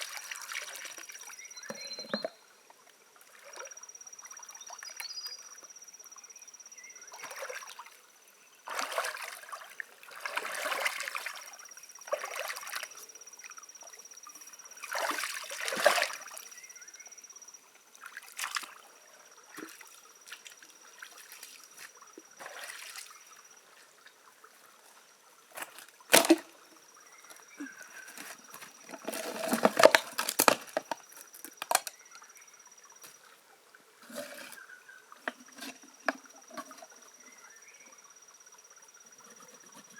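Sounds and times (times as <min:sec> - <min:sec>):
water sloshing and splashing: 0:00.0 - 0:02.4, 0:03.2 - 0:05.0, 0:07.0 - 0:16.9, 0:17.9 - 0:32.0, 0:32.8 - 0:37.3.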